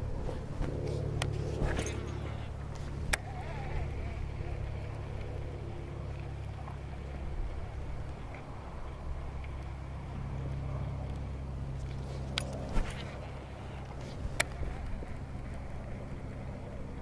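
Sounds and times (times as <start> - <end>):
small boat motor humming: 0.0 - 17.0.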